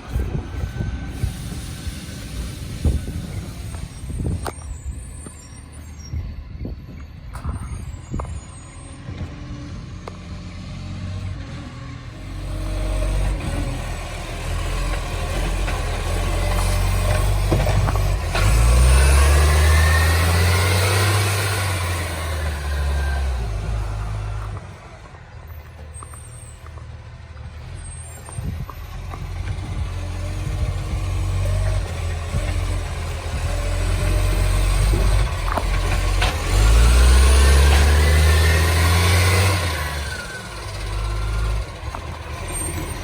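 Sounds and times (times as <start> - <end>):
garbage truck engine revving: 8.4 - 43.0.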